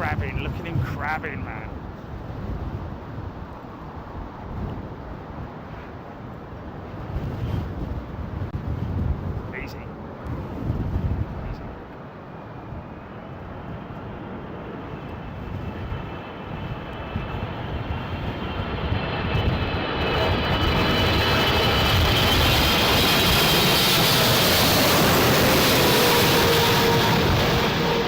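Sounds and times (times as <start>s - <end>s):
airliner engines whining: 0.0s - 8.5s, 11.4s - 28.0s
wind rumbling on microphone: 0.0s - 28.0s.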